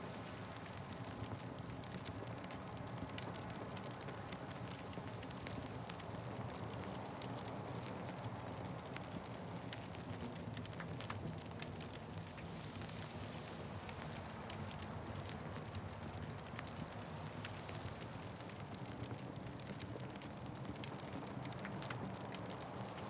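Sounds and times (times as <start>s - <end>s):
low rumble of flames: 0.1s - 23.0s
wood fire crackling: 0.1s - 23.0s.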